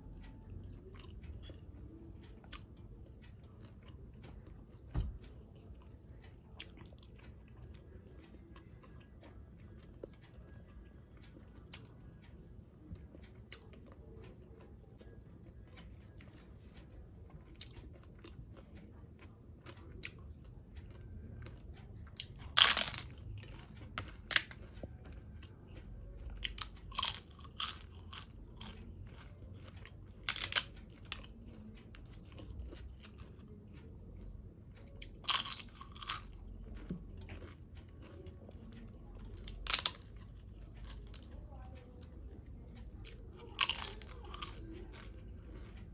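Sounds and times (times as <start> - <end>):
crunching and chewing crispy food: 0.0 - 45.9.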